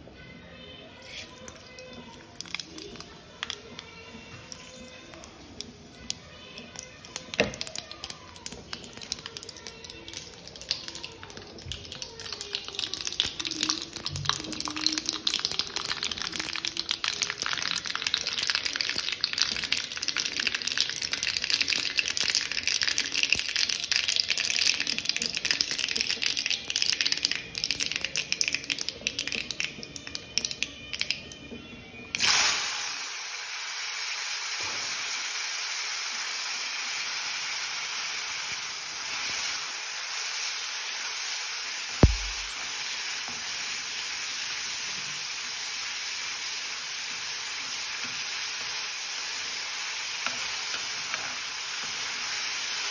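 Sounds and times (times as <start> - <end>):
vegetables sizzling in oil: 0.8 - 31.3, 32.0 - 52.9
seeds popping in hot oil: 1.0 - 33.1, 34.6 - 52.9.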